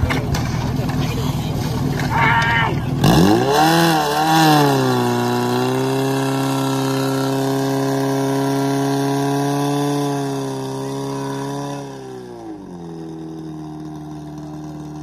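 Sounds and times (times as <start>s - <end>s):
pump engine running: 0.0s - 15.0s.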